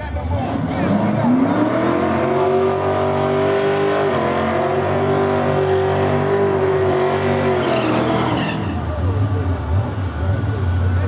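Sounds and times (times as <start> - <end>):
car engine revving high: 0.4 - 11.0.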